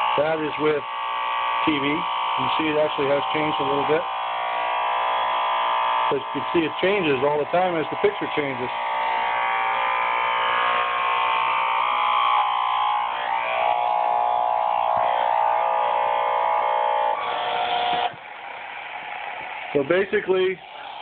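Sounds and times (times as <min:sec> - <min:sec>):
radio speaker buzzing: 0:00.0 - 0:21.0.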